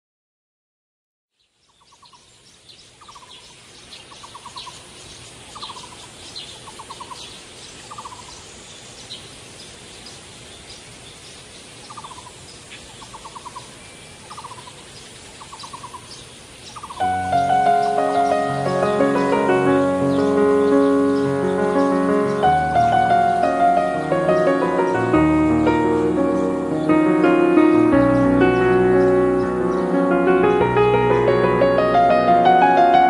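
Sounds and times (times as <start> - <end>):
high chirps of other birds: 1.4 - 33.0.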